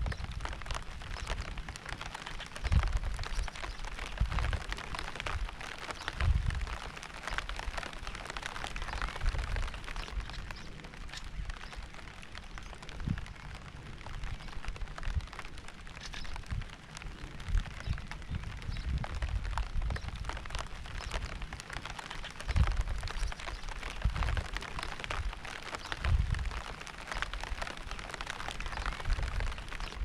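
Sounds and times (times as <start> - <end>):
rain falling: 0.0 - 30.0
raindrops spattering close by: 0.0 - 30.0.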